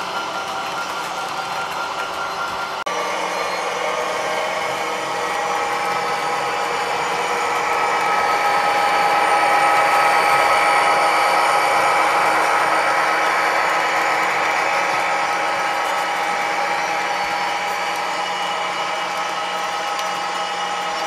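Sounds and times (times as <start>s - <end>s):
model locomotive motor whirring: 0.0s - 21.0s
high whine: 1.8s - 21.0s.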